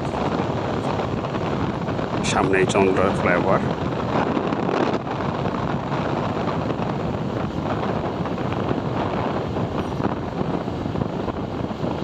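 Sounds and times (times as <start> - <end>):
motorbike engine and road noise: 0.0 - 12.0
wind rush on microphone: 0.0 - 12.0.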